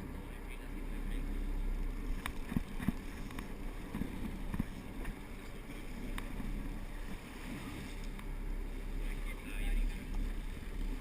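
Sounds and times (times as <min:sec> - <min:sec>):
boat engine droning: 0:00.0 - 0:11.0
wind on microphone: 0:01.6 - 0:11.0.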